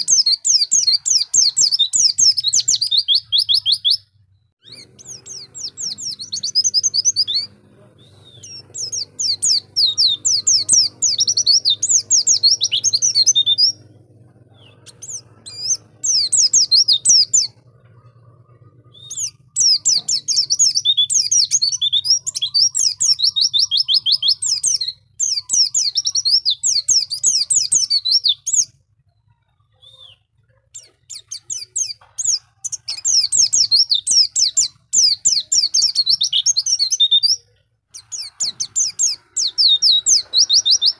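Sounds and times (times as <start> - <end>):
bird twittering high chirps: 0.0 - 40.9.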